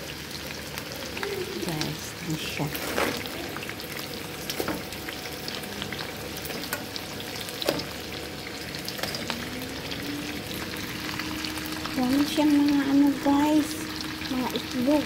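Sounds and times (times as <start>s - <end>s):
crabs sizzling in a pot: 0.0s - 15.0s.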